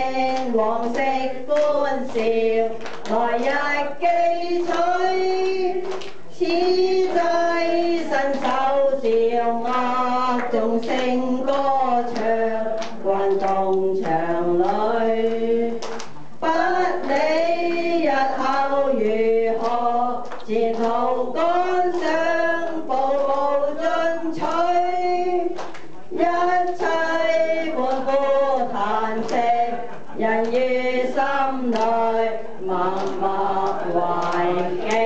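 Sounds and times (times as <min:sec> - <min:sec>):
group singing together: 0:00.0 - 0:35.0.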